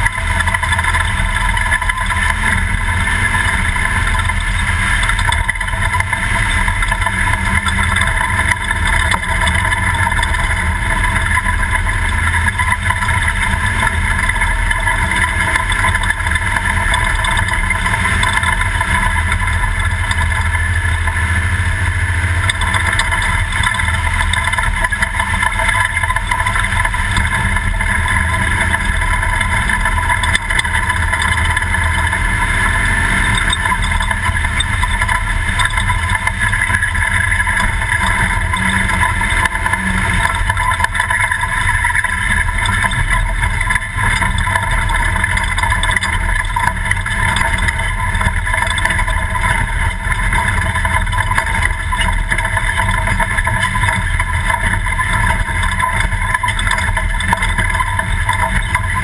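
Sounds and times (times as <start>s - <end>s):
truck engine droning: 0.0s - 59.0s.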